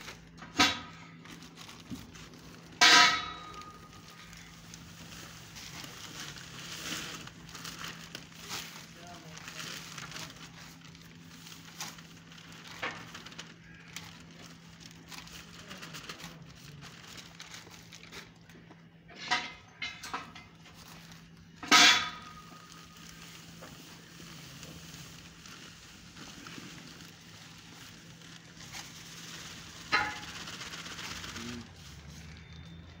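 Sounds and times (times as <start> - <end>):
plastic sack crackling and rustling: 0.0 - 33.0.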